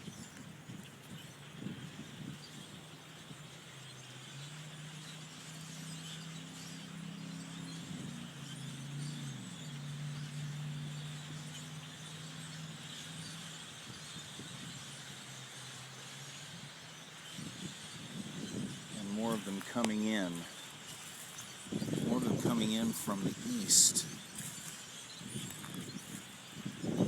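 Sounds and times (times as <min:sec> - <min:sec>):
flock of blackbirds chattering: 0:00.0 - 0:27.0.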